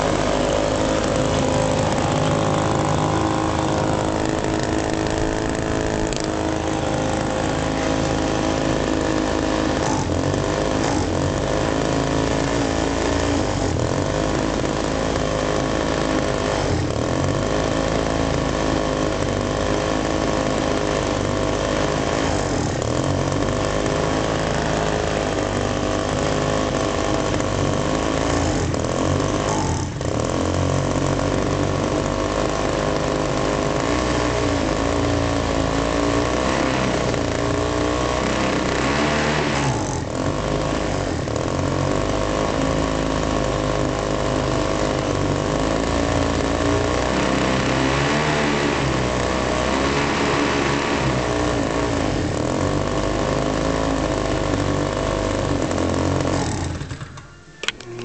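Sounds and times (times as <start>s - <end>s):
model plane engine revving: 0.0s - 58.0s.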